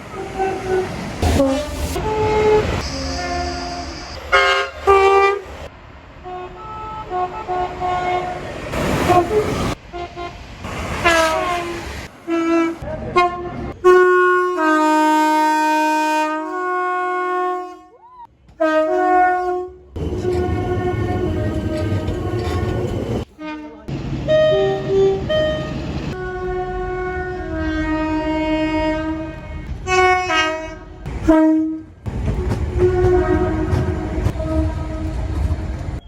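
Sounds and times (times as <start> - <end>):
train running rumble: 0.0 - 13.8, 20.0 - 23.3, 23.9 - 36.0
train horn blasts: 0.1 - 5.6, 6.2 - 8.5, 9.1 - 10.4, 11.0 - 18.0, 18.6 - 35.5.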